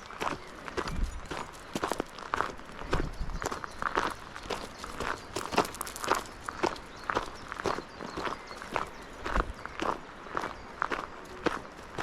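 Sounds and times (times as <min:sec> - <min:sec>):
footsteps walking outdoors: 0:00.0 - 0:12.0.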